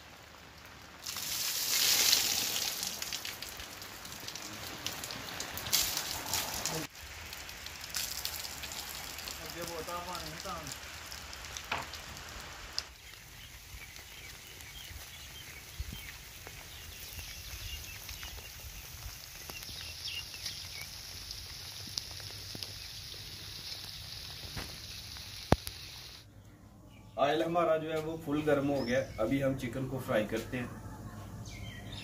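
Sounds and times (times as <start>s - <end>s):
steady rain falling: 0.0s - 26.3s.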